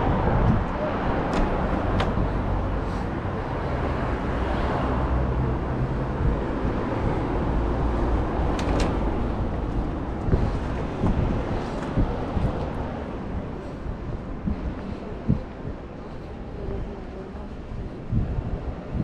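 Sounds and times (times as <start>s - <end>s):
vehicle passing: 0.0s - 17.6s
road traffic rumble: 0.0s - 19.0s.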